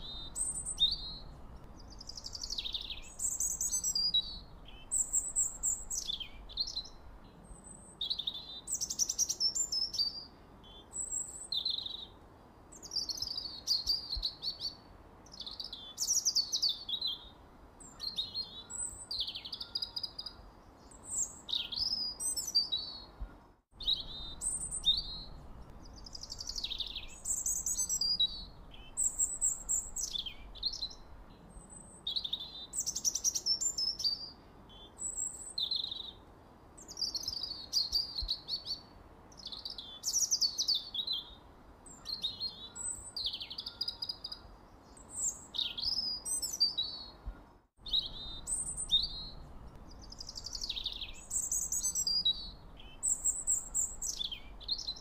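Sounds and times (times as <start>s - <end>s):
faint steady hiss: 0.0s - 55.0s
small birds chirping: 0.0s - 55.0s.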